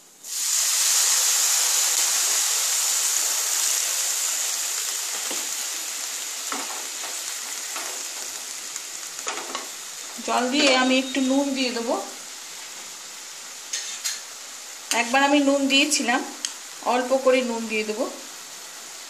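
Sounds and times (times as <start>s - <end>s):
water sizzling in hot pan: 0.0s - 19.0s.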